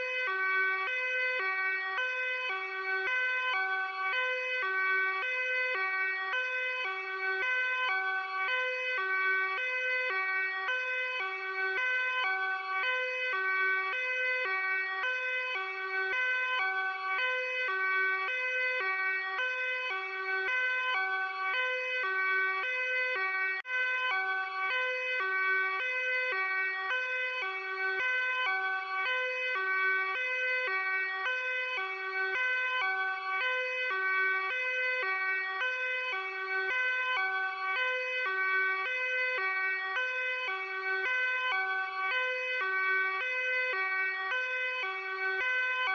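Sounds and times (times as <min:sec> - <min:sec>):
two-tone police siren: 0:00.0 - 0:45.9.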